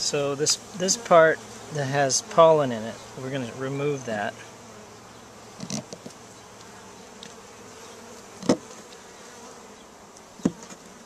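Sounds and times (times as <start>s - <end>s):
honey bees buzzing: 0.0s - 11.0s.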